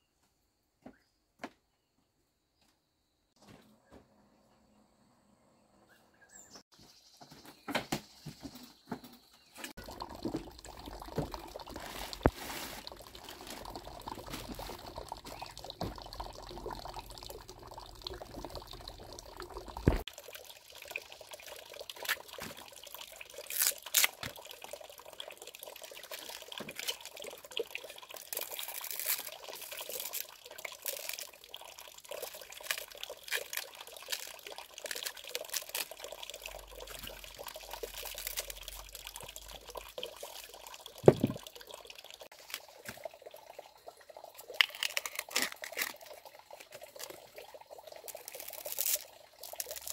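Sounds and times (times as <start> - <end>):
water splashing and trickling: 7.7 - 49.9.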